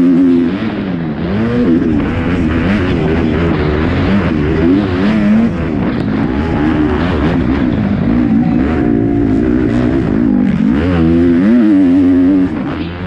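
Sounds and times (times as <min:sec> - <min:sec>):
motocross bike engine racing: 0:00.0 - 0:13.0.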